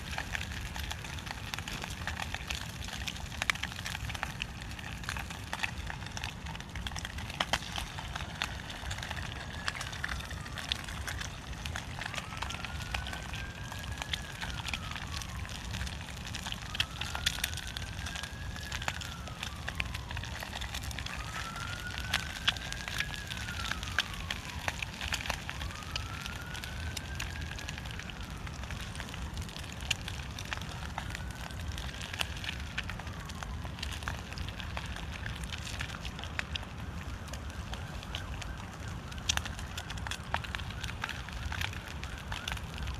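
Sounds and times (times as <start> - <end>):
faint siren wailing: 0.0 - 42.9
wood fire crackling: 0.0 - 42.9.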